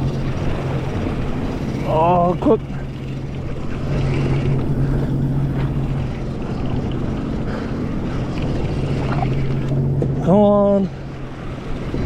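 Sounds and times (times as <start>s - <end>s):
jet ski engine humming: 0.0s - 12.0s
water noise: 0.0s - 12.0s.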